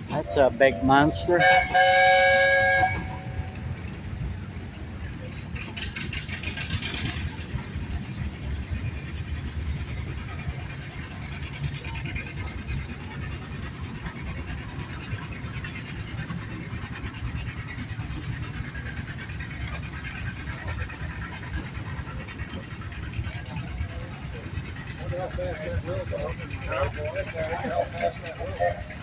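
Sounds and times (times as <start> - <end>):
engines rumbling: 0.0 - 29.0.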